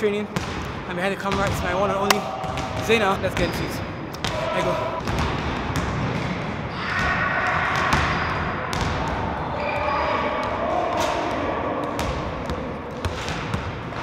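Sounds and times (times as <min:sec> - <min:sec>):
basketballs bouncing on gym floor: 0:00.3 - 0:09.7, 0:10.4 - 0:14.0
basketball hitting backboard and rim: 0:00.4 - 0:06.5, 0:07.7 - 0:09.2, 0:10.4 - 0:14.0.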